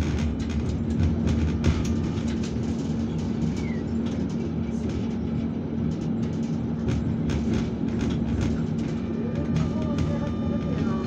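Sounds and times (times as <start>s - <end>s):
constant hum: 0.0s - 11.0s
tram rumbling along track: 0.0s - 11.0s.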